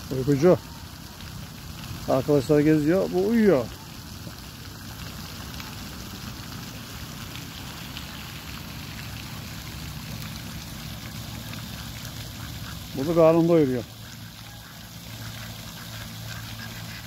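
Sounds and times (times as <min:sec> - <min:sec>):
water trickling in stream: 0:00.0 - 0:17.0.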